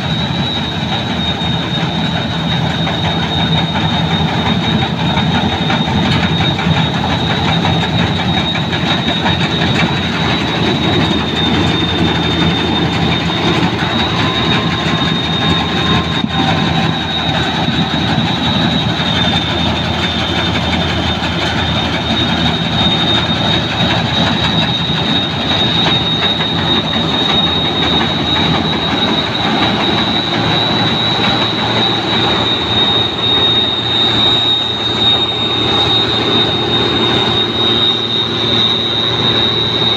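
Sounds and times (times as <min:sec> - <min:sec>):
combine harvester mechanical din: 0:00.0 - 0:39.9
high steady whine: 0:00.0 - 0:39.9.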